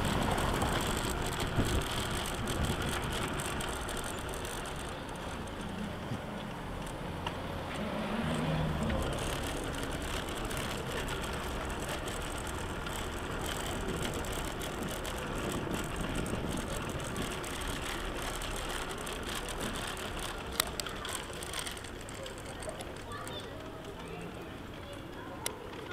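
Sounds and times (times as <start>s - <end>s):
tyres rattling over cobblestones: 0.0s - 25.9s.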